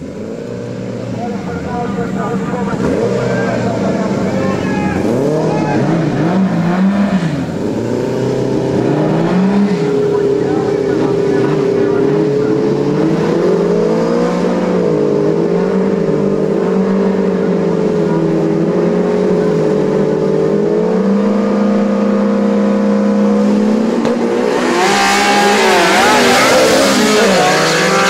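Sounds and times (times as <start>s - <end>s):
drag car engines revving: 0.0s - 28.0s.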